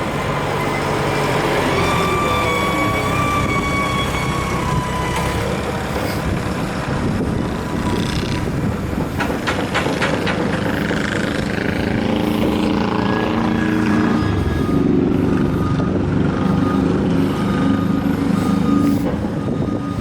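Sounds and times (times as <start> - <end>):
heavy trucks diesel rumble: 0.0 - 20.0.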